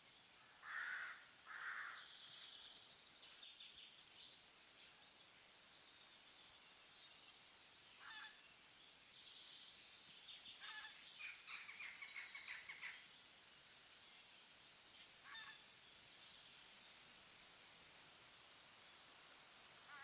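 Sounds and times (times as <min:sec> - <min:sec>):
faint forest ambience: 0:00.0 - 0:20.0.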